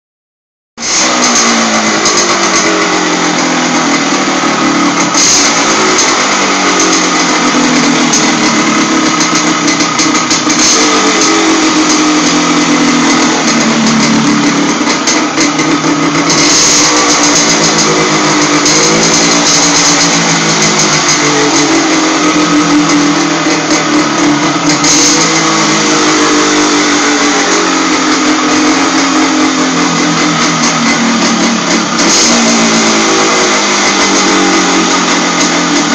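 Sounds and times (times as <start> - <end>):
two-stroke motorcycle engine running: 0.8 - 35.9.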